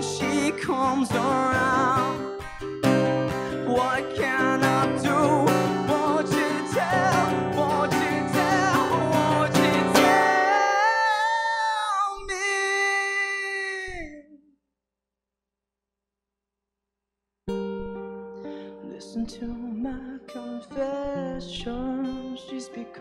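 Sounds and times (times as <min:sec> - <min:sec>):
acoustic guitar strumming: 0:00.0 - 0:13.5, 0:17.5 - 0:23.0
man singing: 0:00.0 - 0:14.4, 0:18.8 - 0:23.0.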